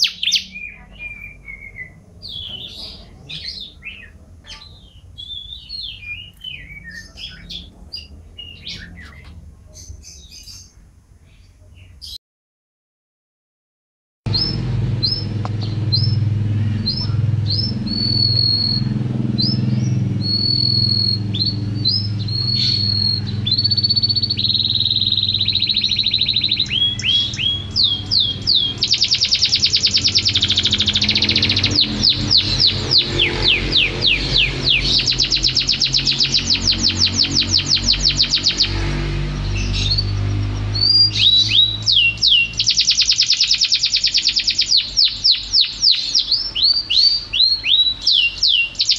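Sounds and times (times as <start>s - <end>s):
canary singing: 0.0s - 12.2s, 14.3s - 48.9s.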